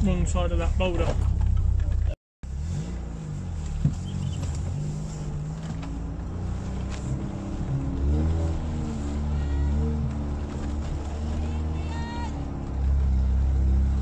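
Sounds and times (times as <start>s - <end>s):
car engine revving under load: 0.6s - 14.0s.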